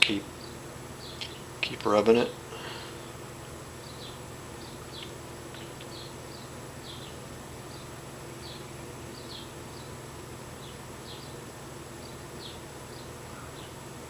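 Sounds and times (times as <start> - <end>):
low electrical buzz: 0.0 - 14.0.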